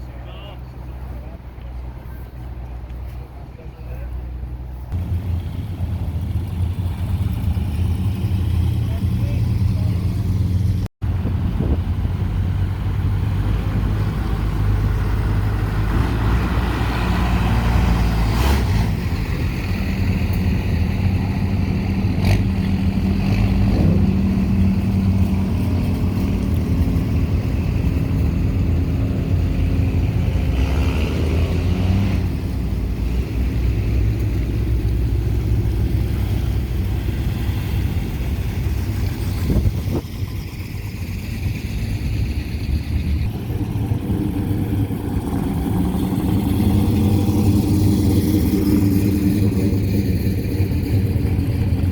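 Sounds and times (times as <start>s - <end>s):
cars driving slowly past: 0.0s - 51.9s.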